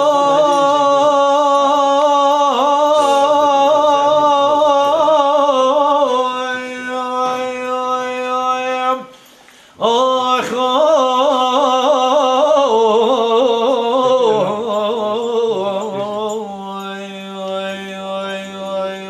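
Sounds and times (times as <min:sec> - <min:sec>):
man singing unaccompanied: 0:00.0 - 0:09.2, 0:09.8 - 0:19.0.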